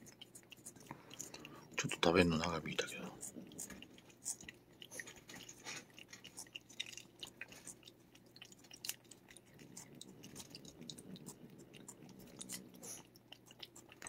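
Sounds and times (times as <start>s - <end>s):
cat licking wet smacking: 0.0s - 14.0s.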